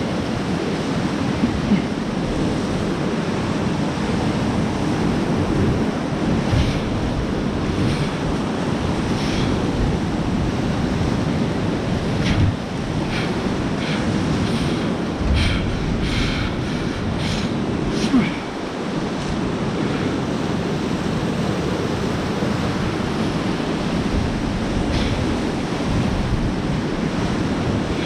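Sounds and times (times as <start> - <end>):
whitewater rapids rushing: 0.0 - 28.0
wind buffeting microphone: 0.0 - 28.0.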